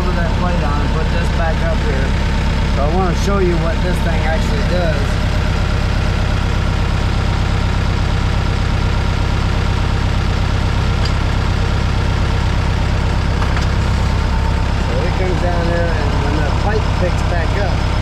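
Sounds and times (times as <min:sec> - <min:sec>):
drill rig engine running: 0:00.0 - 0:18.0.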